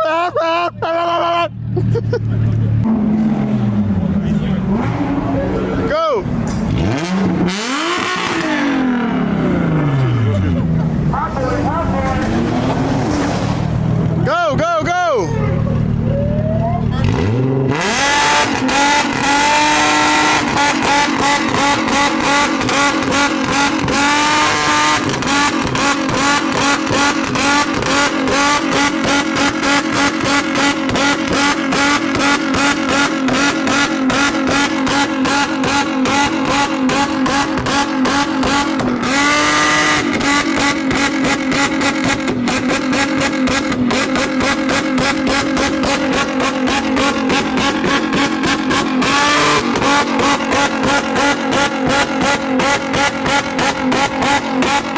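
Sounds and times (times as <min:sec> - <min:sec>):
exhaust popping and crackling: 0:00.0 - 0:54.9
car engine revving loudly: 0:02.8 - 0:15.0, 0:16.9 - 0:54.9.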